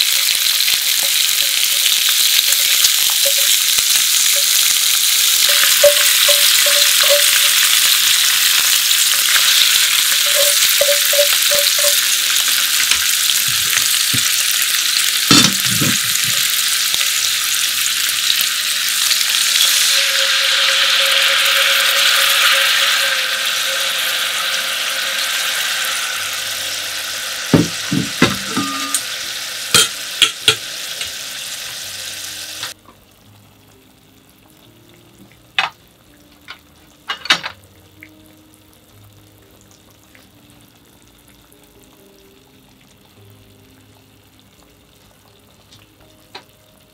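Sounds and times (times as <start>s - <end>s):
beef sizzling in a pan: 0.0s - 46.9s.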